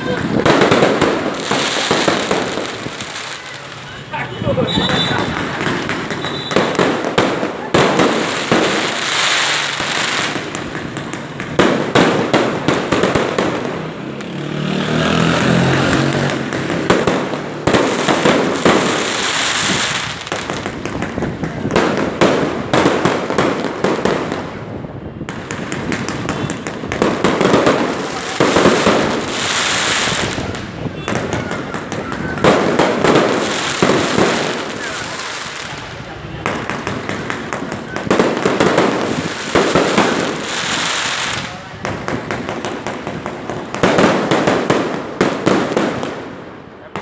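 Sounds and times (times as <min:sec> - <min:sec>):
fireworks bangs and crackling: 0:00.0 - 0:47.0.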